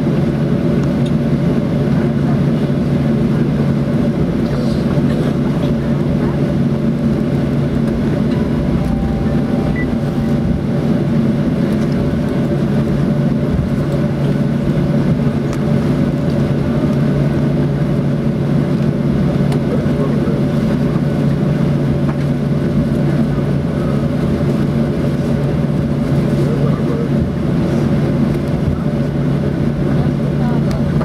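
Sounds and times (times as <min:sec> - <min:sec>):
jet engines droning: 0:00.0 - 0:31.0.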